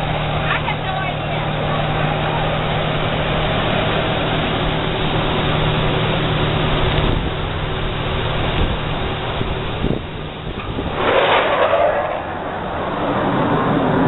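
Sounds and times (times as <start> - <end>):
loud engine roar: 0.0 - 14.0.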